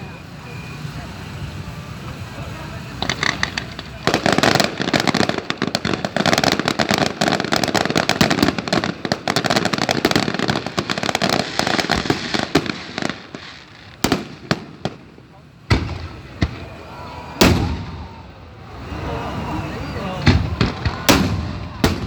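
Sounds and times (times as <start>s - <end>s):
fireworks crackling bursts: 0.0s - 22.0s
fireworks sharp bangs: 0.0s - 22.0s.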